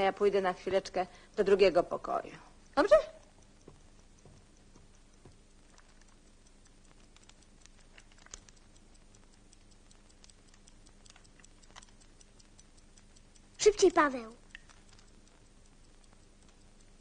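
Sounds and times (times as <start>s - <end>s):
rapid steady ticking: 0.0s - 17.0s
soft clicks: 2.5s - 17.0s.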